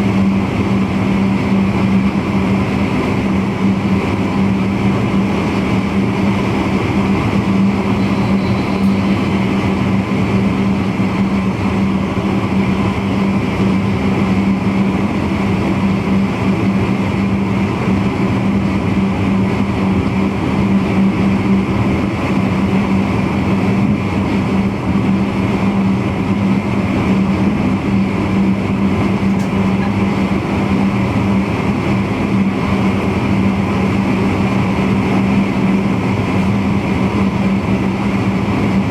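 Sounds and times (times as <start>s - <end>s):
constant low hum: 0.0s - 38.9s
train wheels on rail: 0.0s - 38.9s.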